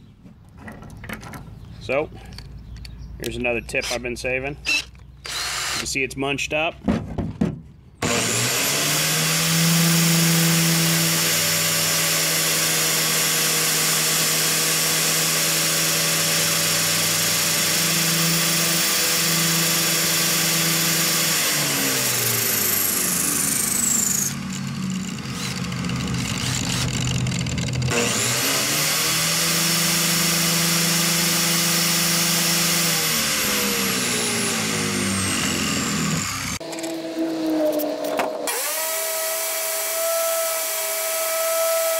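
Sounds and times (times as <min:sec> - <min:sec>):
cordless drill spinning: 0:04.6 - 0:05.9, 0:08.0 - 0:41.9
angle grinder running: 0:04.7 - 0:05.9, 0:08.0 - 0:41.9.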